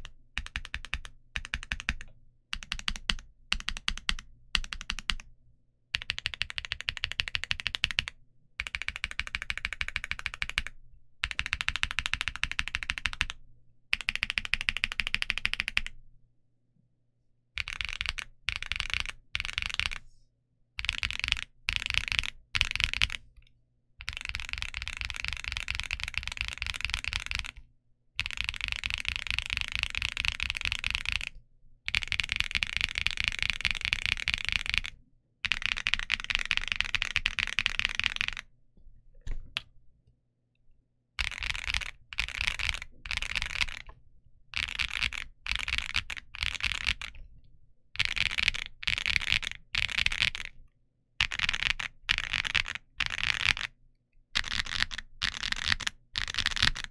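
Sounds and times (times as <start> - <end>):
mechanical keyboard typing: 0.0 - 5.2, 6.0 - 16.0, 17.6 - 20.0, 20.8 - 23.2, 24.0 - 27.6, 28.2 - 31.3, 31.9 - 38.5, 41.2 - 43.9, 44.6 - 47.2, 48.0 - 50.6, 51.2 - 53.8, 54.4 - 56.9.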